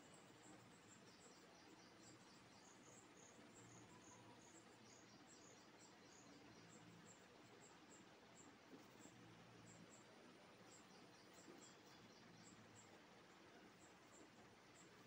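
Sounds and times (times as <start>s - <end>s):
faint high-pitched chirping: 0.0s - 15.0s.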